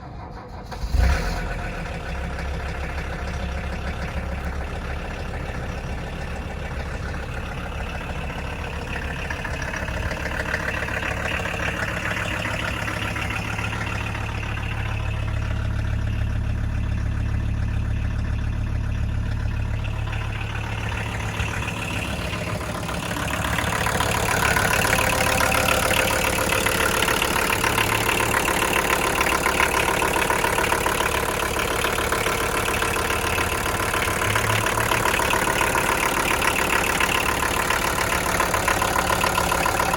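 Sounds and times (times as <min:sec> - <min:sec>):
diesel engine idling: 0:00.0 - 0:39.9
diesel engine starting: 0:00.0 - 0:39.9.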